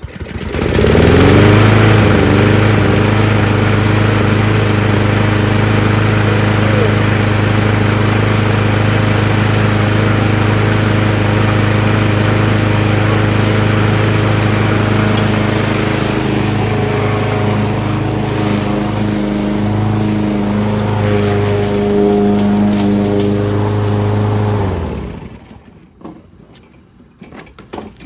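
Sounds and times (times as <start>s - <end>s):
lawn mower engine running: 0.0s - 25.8s.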